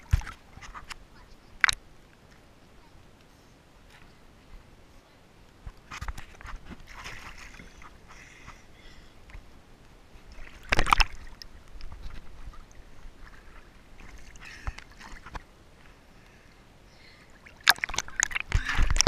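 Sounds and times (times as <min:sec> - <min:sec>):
water sloshing and lapping: 0:00.0 - 0:03.1, 0:05.6 - 0:09.5, 0:10.1 - 0:16.6, 0:17.2 - 0:19.0.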